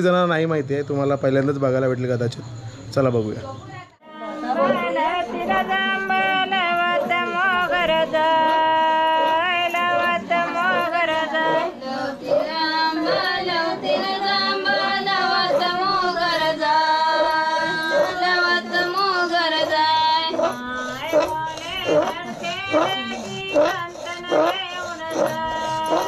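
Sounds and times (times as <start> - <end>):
women singing folk song: 4.0 - 26.0.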